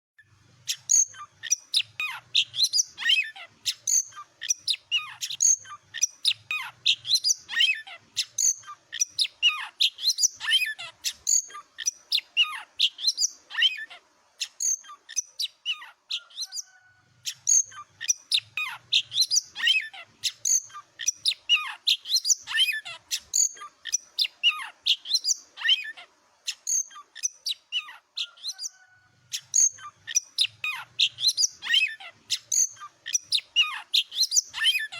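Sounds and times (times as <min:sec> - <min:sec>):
bird singing whistles and trills: 0:00.7 - 0:34.9.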